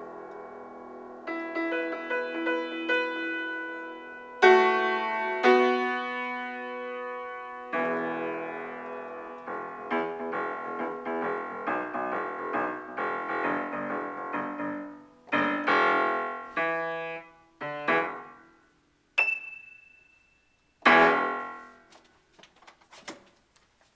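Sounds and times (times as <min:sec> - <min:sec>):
piano improvisation: 0:00.0 - 0:19.8, 0:20.8 - 0:22.0.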